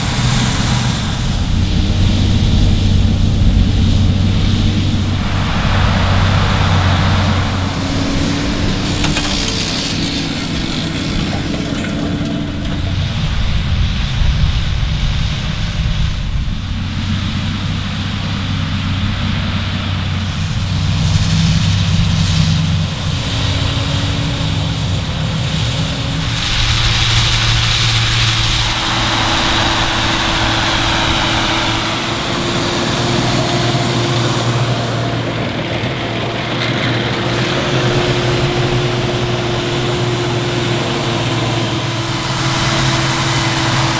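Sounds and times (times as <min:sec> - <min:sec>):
fan and mechanical noise: 0:00.0 - 0:43.9
heavy diesel engines droning: 0:00.0 - 0:43.9.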